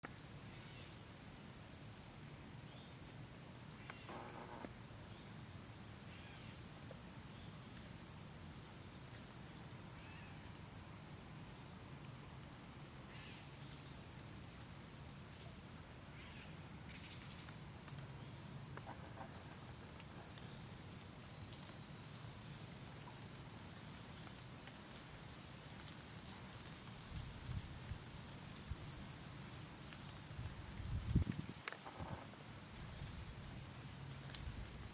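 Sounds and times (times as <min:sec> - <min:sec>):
high-pitched insect chorus: 0:00.1 - 0:34.9.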